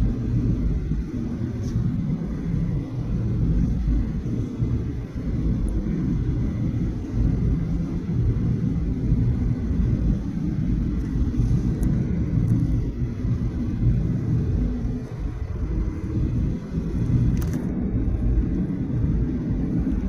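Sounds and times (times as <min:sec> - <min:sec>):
airplane cabin low rumble: 0:00.0 - 0:20.0.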